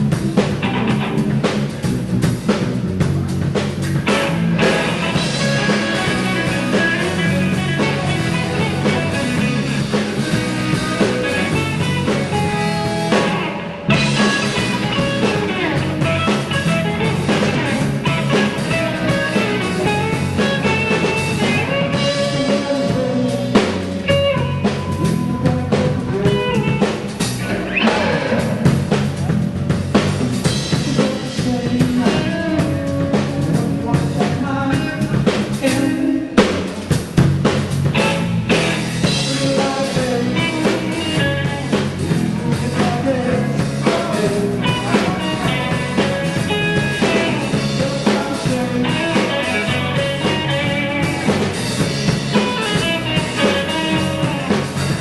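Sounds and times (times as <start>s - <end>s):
drum kit beat: 0.0s - 55.0s
rock band playing live: 0.0s - 55.0s.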